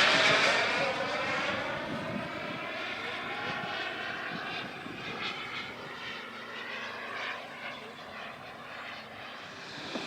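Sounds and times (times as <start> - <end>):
jet engine rushing whine: 0.0 - 10.0.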